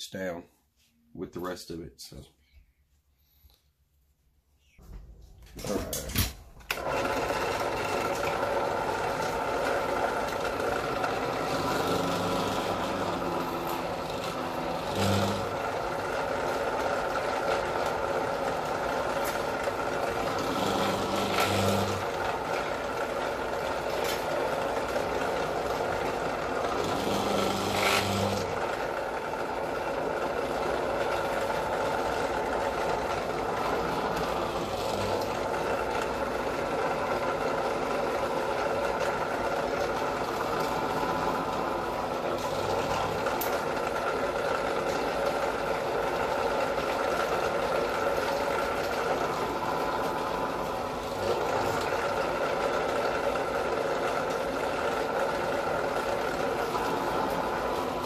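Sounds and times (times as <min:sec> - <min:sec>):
drill press motor running: 0:05.5 - 0:58.0.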